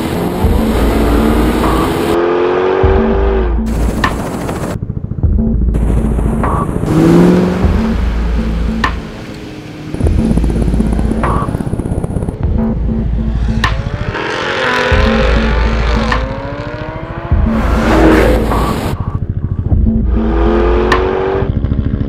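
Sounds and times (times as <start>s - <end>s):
sports car engine revving: 0.0s - 3.8s, 6.5s - 21.7s.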